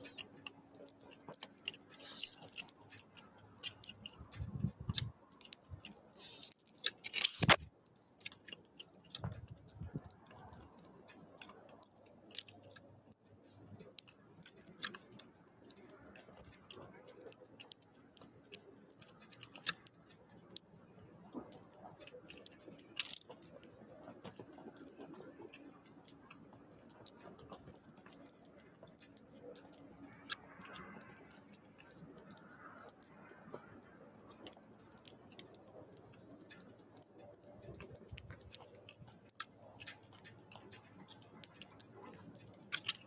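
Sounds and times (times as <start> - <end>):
birds pecking at seeds: 0.0 - 43.0.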